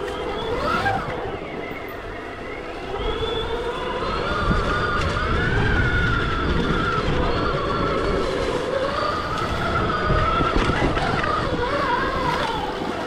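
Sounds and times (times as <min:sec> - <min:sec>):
electric motorbike motor whining: 0:00.0 - 0:13.0.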